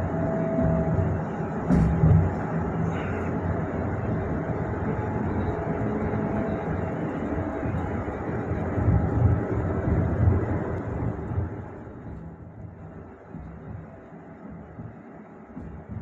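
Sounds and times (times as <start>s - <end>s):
bus road and running rumble: 0.0s - 16.0s.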